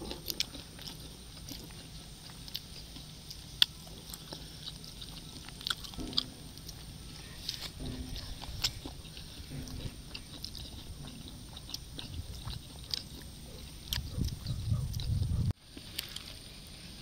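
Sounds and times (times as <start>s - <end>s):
crunchy chewing: 0.0s - 17.0s
low hums: 0.0s - 17.0s.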